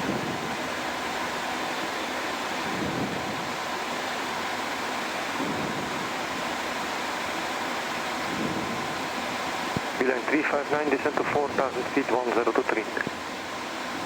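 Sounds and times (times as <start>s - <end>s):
airflow and air-conditioning hiss: 0.0s - 14.0s.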